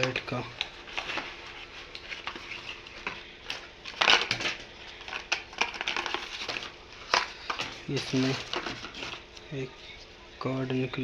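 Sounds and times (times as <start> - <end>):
plastic packaging rustling: 0.0 - 9.4.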